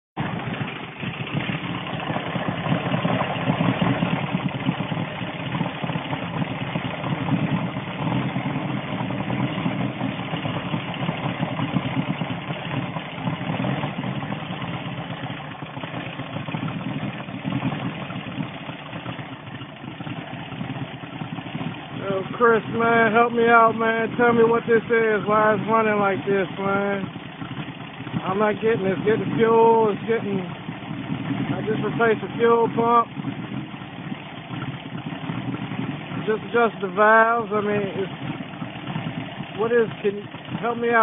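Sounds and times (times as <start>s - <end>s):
car engine idling unevenly: 0.2s - 41.0s.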